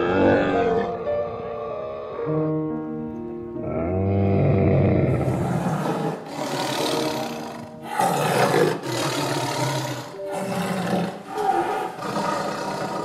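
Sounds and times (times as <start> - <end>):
lion roaring: 0.0 - 2.5, 3.6 - 13.0.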